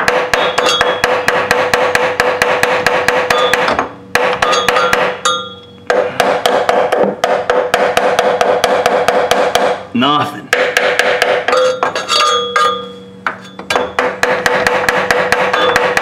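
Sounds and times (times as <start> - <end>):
hammer striking starter motor: 0.0 - 9.8, 10.6 - 16.0.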